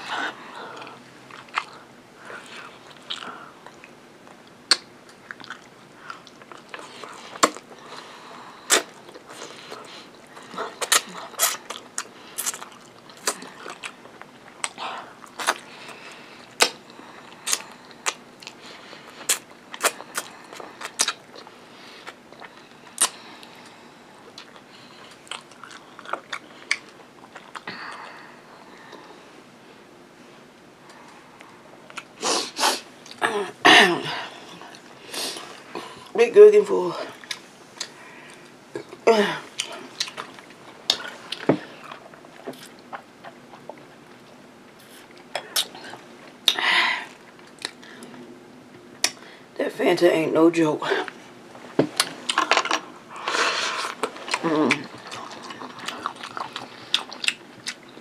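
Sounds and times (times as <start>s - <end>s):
chewing and crunching food: 0.0s - 29.2s, 30.8s - 32.2s, 34.2s - 49.3s, 51.0s - 58.0s.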